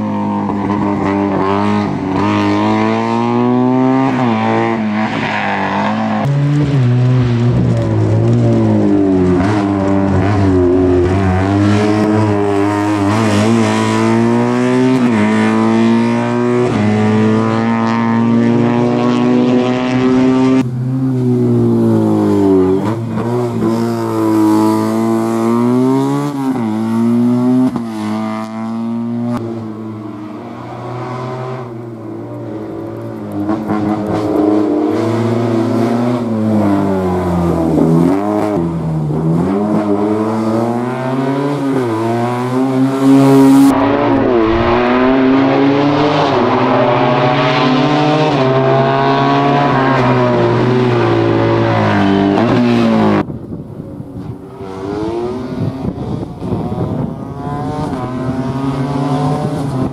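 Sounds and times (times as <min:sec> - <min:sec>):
race car engine revving: 0:00.4 - 0:32.0, 0:32.6 - 0:53.3, 0:54.2 - 0:59.9.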